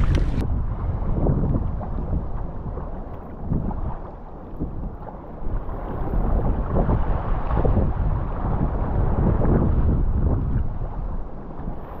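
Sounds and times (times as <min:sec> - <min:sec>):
water splashing against kayak hull: 0:00.0 - 0:12.0
wind buffeting microphone: 0:00.0 - 0:12.0.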